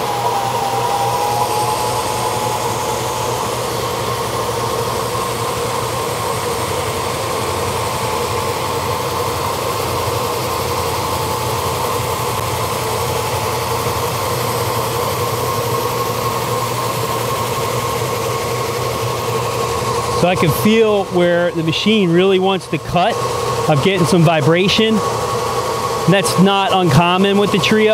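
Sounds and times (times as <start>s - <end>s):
floor sander motor humming: 0.0s - 27.9s.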